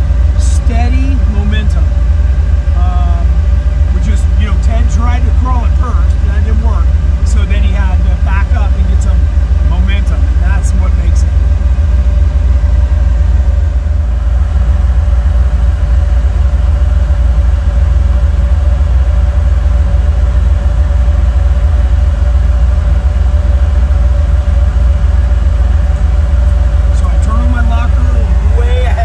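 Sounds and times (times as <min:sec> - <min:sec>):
engine low rumble with whine: 0:00.0 - 0:29.0.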